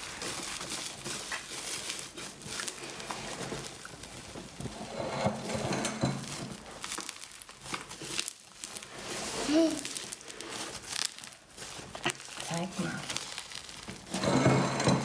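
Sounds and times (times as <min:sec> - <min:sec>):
slime with beads crackling: 0:00.0 - 0:05.0, 0:06.2 - 0:14.3.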